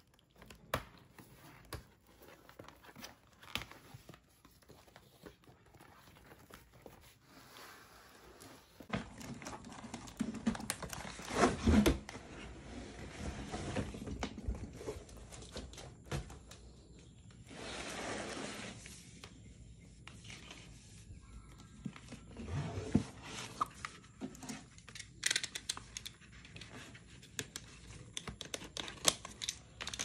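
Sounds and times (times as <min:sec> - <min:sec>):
crinkling: 0:00.0 - 0:16.2, 0:20.1 - 0:30.0.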